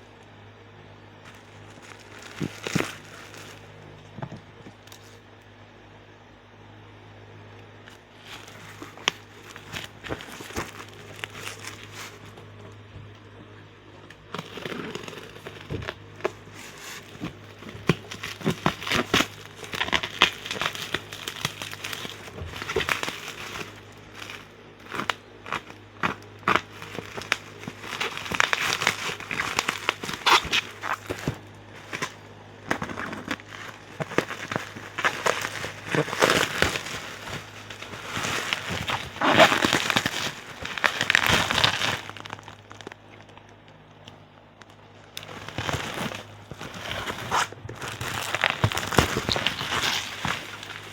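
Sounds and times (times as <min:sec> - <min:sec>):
faint low hum: 0:00.0 - 0:50.9
plastic packaging crinkling: 0:01.2 - 0:05.3, 0:07.9 - 0:50.9.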